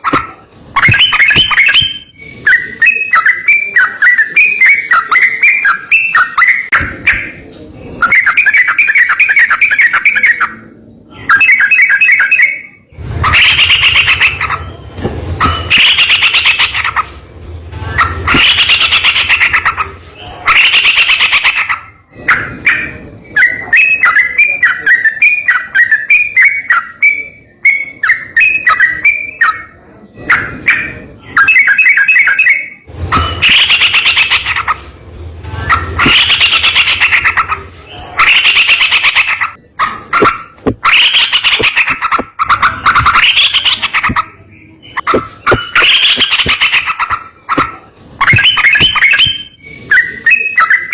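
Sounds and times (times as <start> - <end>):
bulbul chattering song: 0.0 - 50.9.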